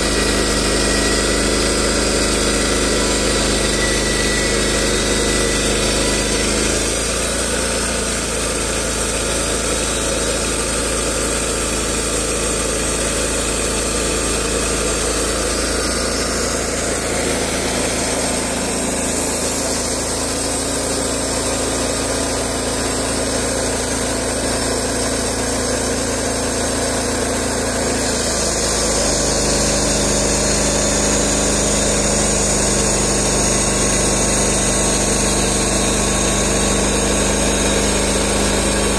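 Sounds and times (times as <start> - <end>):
bandsaw blade cutting log: 0.0 - 38.9
sawmill gas engine running: 0.0 - 38.9.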